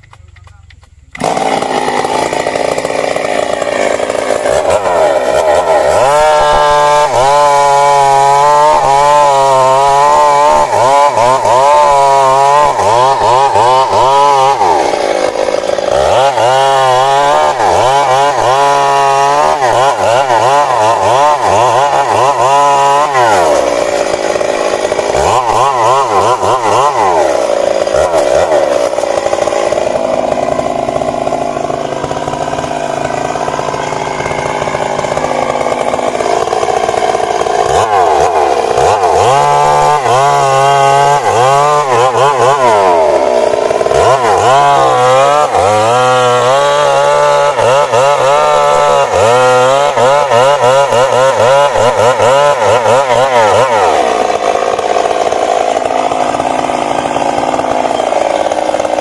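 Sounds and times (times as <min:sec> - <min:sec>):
chainsaw cutting into tree trunk: 0:00.0 - 0:59.0.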